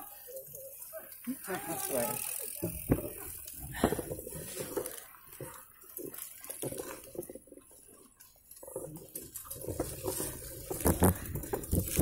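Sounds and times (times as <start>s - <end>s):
bike knocking and rattling: 0.0s - 12.0s
bike tyres on dirt trail: 0.0s - 12.0s.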